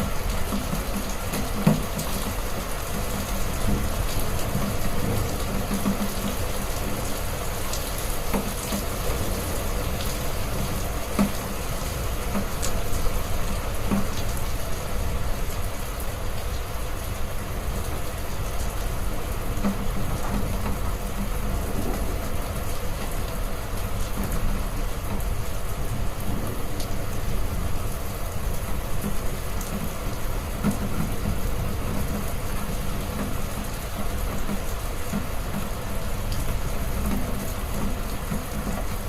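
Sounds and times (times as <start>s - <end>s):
heavy rain: 0.0s - 39.0s.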